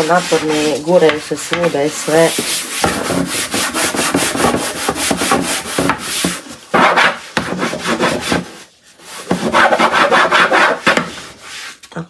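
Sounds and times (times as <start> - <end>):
hand scrubbing a drawer: 0.0 - 11.8.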